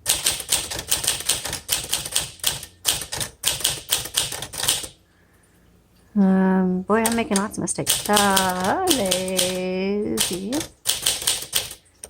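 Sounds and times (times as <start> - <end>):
manual typewriter typing: 0.0 - 5.0, 7.0 - 12.0.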